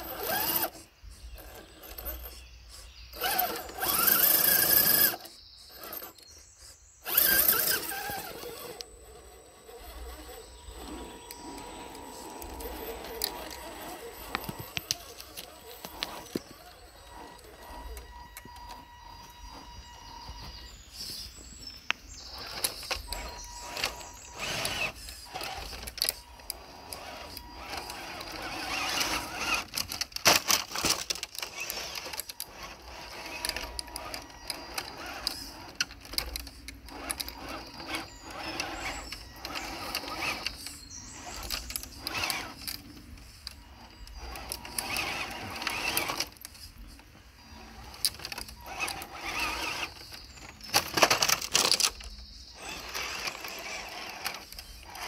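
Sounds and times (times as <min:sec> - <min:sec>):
small electric motor whine: 0:00.0 - 0:55.0
tyres scraping over ground: 0:00.0 - 0:55.0.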